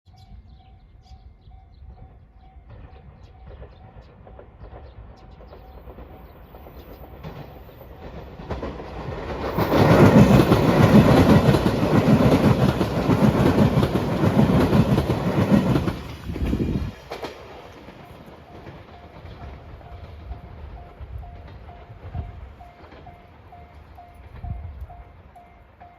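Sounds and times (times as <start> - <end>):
train wheels clattering on rails: 2.4 - 25.9.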